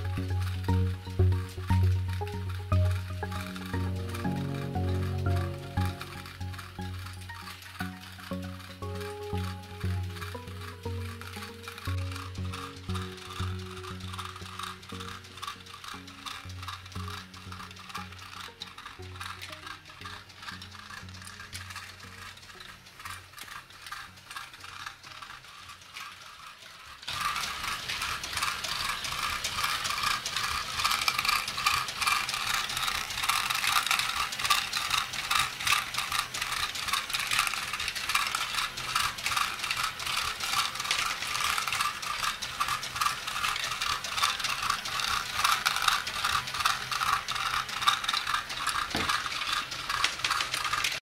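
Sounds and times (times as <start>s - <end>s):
plastic gears clicking: 0.0s - 51.0s
small balls rattling: 0.0s - 51.0s.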